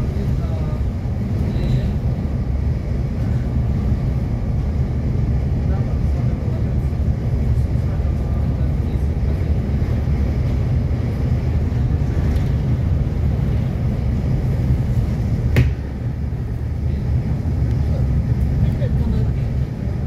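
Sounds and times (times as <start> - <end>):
bus diesel engine rumble: 0.0 - 20.0
road noise: 0.0 - 20.0.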